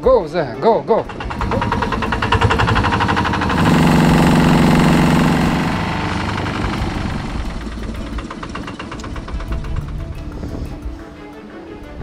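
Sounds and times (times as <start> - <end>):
boat engine droning: 0.9 - 10.8.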